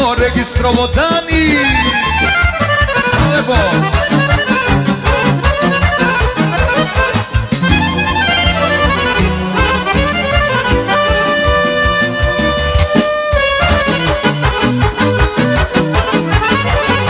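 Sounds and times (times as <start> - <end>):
accordions playing: 0.0 - 17.0
bass line: 0.0 - 17.0
steady drum beat: 0.0 - 17.0.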